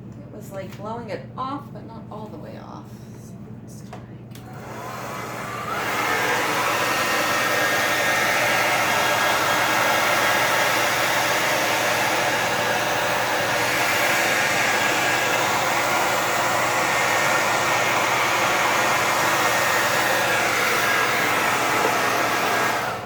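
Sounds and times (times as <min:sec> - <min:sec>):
hair dryer blowing: 0:04.4 - 0:23.0.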